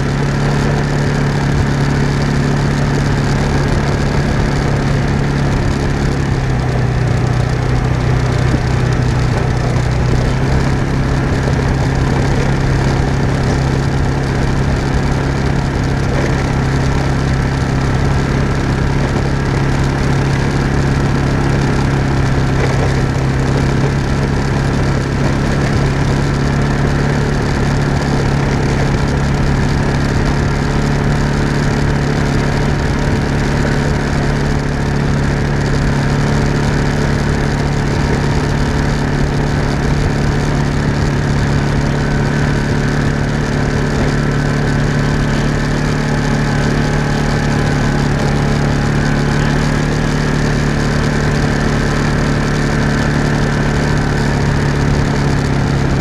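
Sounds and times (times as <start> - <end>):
tyres crunching over gravel: 0.0 - 56.0
vehicle engine running: 0.0 - 56.0.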